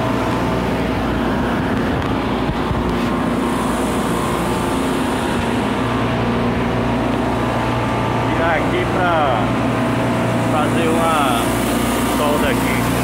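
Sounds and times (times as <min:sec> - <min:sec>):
refrigeration machinery humming: 0:00.0 - 0:13.0.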